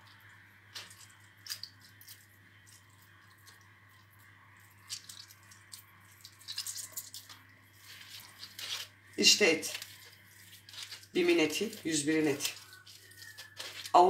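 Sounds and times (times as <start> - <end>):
water dripping: 0.0 - 14.0
wet squelches of meat squeezed: 0.0 - 14.0.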